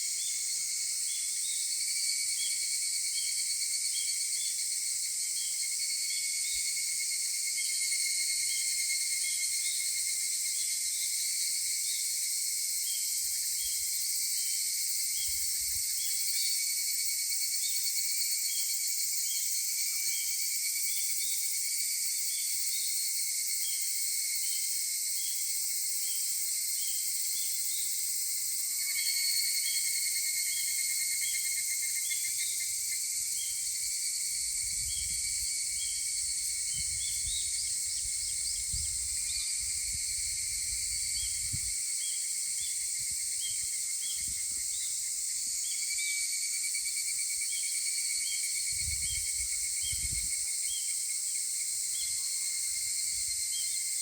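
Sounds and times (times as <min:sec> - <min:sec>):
cicadas trilling drone: 0:00.0 - 0:54.0.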